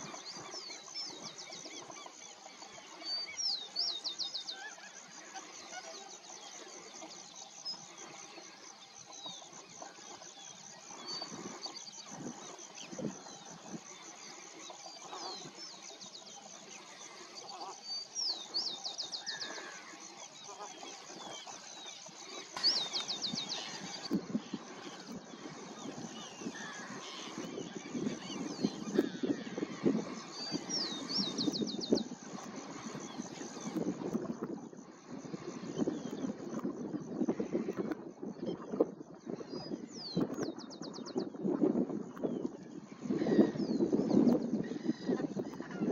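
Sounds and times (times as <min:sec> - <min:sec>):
waterbirds calling: 0:00.0 - 0:41.1.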